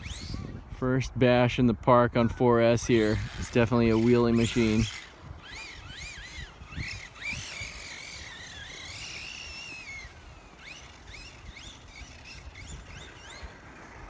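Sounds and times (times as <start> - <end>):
electric motor whining: 0.0 - 0.8, 2.7 - 14.0.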